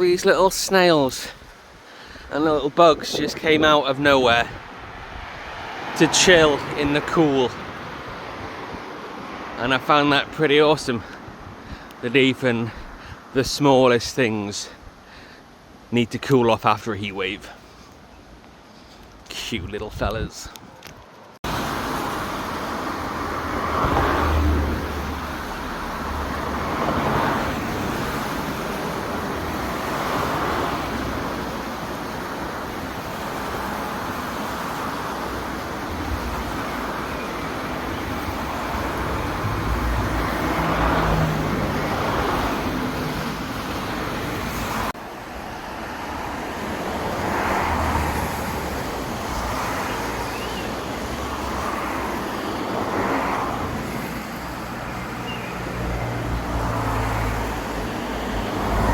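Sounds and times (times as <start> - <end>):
vehicles passing: 0.0 - 13.4, 14.4 - 58.9.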